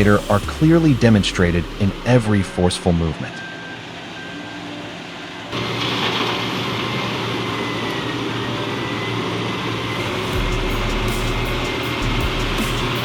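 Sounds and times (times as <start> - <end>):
heavy earthmoving machinery running: 0.0 - 3.6, 5.5 - 13.0.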